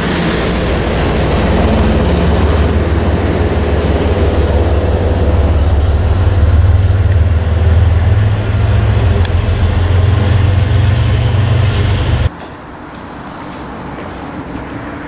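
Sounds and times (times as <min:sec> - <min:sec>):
diesel locomotive rumbling: 0:00.0 - 0:15.0.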